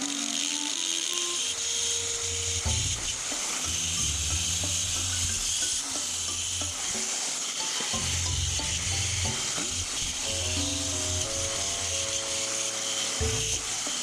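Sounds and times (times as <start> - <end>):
background music: 0.0 - 14.0
wire brush grinder on metal: 0.0 - 14.0.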